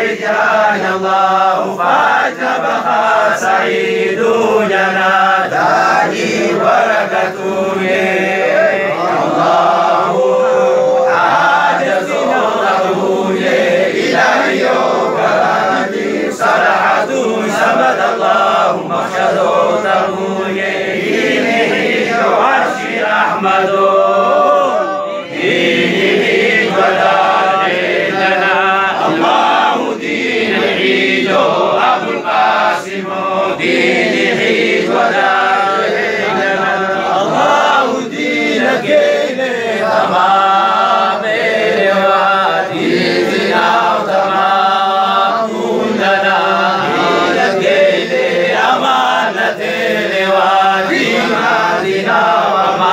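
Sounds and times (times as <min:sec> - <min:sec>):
men chanting together: 0:00.0 - 0:52.9.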